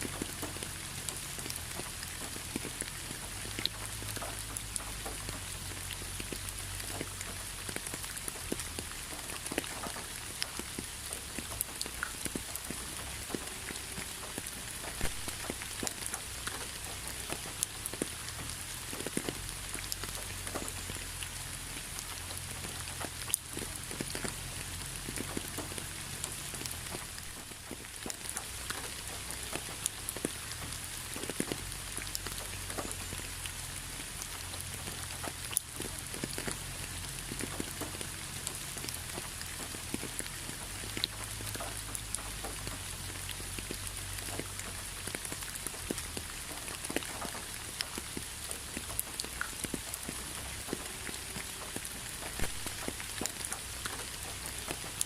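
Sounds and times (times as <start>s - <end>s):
raindrops tapping: 0.0s - 55.0s
steady rain hiss: 0.0s - 55.0s.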